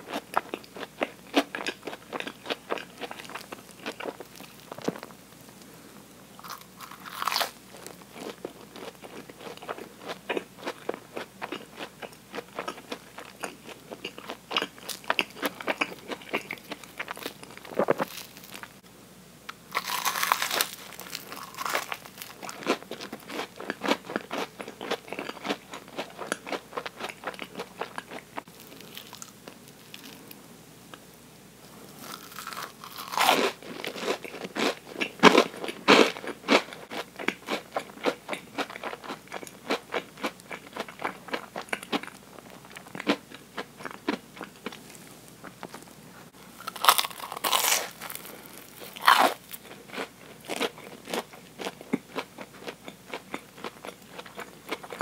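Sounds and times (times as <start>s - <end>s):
crunchy chewing: 0.0s - 5.7s, 6.4s - 18.8s, 19.5s - 31.0s, 31.8s - 55.0s.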